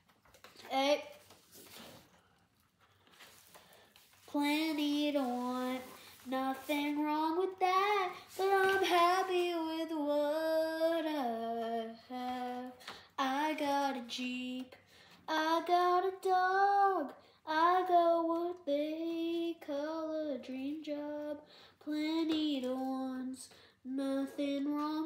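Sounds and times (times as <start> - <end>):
boy singing unaccompanied: 4.3 - 25.0.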